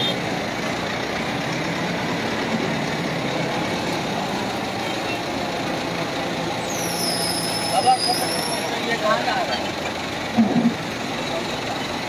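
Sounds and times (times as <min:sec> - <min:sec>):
traffic engines running: 0:00.0 - 0:12.0.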